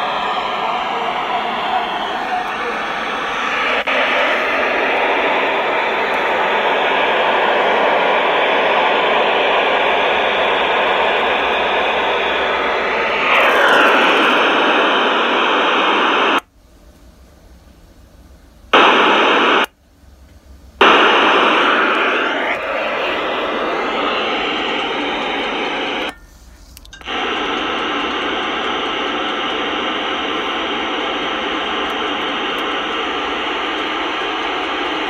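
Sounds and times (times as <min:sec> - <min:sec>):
radio speaker static hiss: 0:00.0 - 0:16.5, 0:18.7 - 0:19.8, 0:20.8 - 0:35.0.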